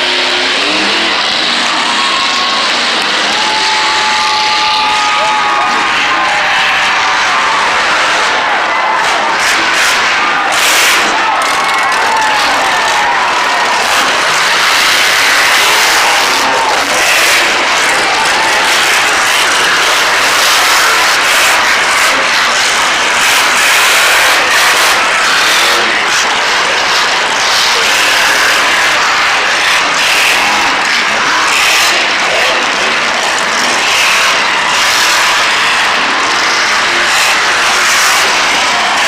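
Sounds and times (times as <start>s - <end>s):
monster truck engines running: 0.0s - 39.0s.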